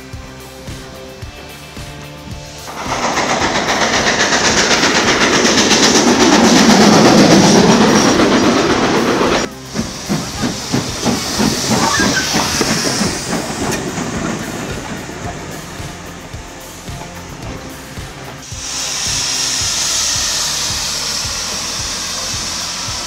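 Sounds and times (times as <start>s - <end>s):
steam locomotive hissing and chuffing: 0.0s - 23.0s
train wheels clicking over rail joints: 2.6s - 23.0s.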